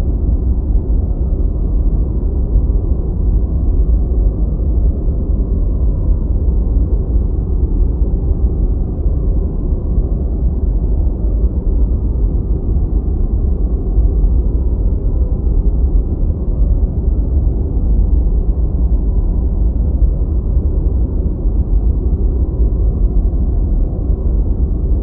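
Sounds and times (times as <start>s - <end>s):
deep rumbling white noise: 0.0s - 25.0s.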